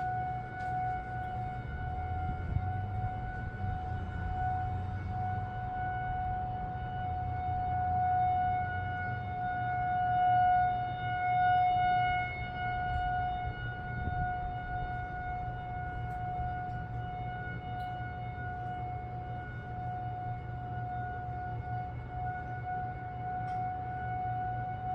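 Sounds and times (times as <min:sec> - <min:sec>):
outdoor warning siren steady tone: 0:00.0 - 0:24.9.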